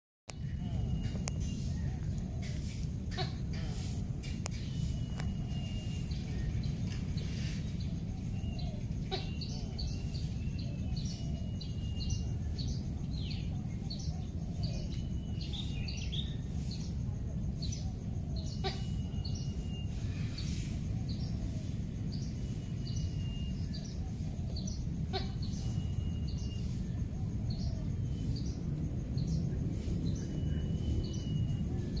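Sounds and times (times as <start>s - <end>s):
low outdoor rumble: 0.3s - 32.0s
wild birds chirping: 0.3s - 32.0s.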